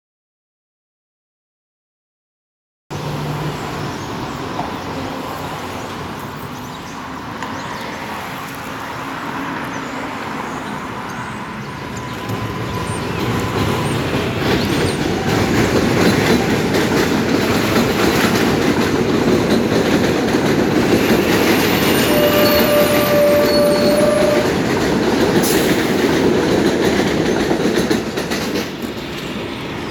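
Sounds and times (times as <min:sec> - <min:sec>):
train wheels rumbling on rails: 0:03.0 - 0:29.9.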